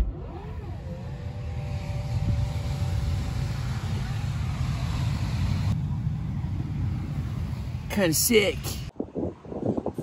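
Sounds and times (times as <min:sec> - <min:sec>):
low rumble: 0:00.0 - 0:08.9.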